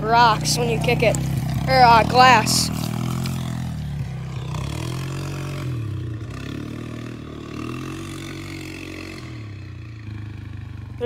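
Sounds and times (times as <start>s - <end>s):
gravel crunching underfoot: 0.0s - 9.5s
atv engine revving: 0.0s - 11.0s.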